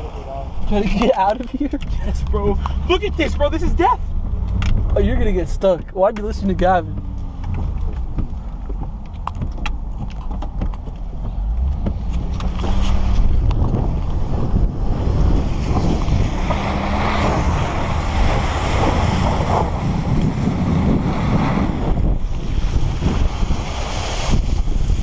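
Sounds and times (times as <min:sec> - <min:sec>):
truck engine rumble: 0:00.0 - 0:25.0
tyres splashing through mud: 0:00.0 - 0:25.0
wind buffeting microphone: 0:00.4 - 0:25.0.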